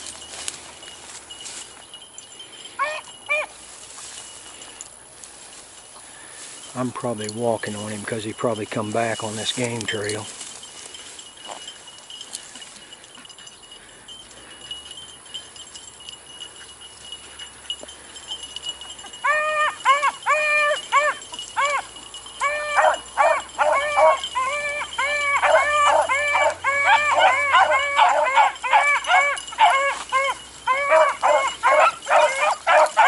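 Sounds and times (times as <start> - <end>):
dogs baying: 0.0 - 6.4, 8.7 - 33.0.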